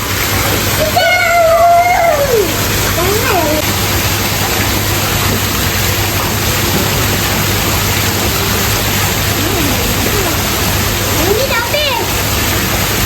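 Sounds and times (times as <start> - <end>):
rushing waterfall: 0.0 - 13.0.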